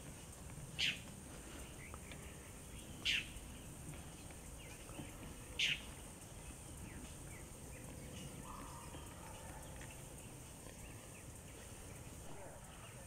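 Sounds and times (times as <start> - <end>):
low outdoor background: 0.0 - 13.0
songbirds chirping: 0.0 - 13.0.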